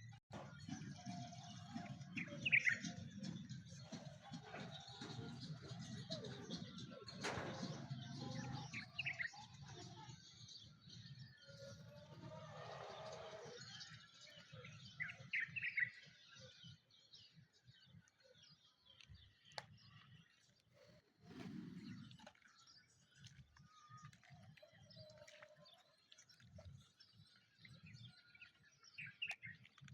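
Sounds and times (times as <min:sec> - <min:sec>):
birds chirping and singing: 0:00.3 - 0:29.8.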